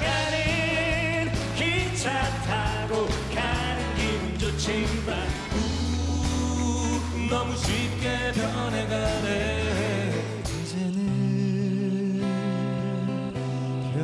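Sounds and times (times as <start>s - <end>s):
acoustic guitars: 0.0s - 14.0s
person singing: 0.0s - 14.0s.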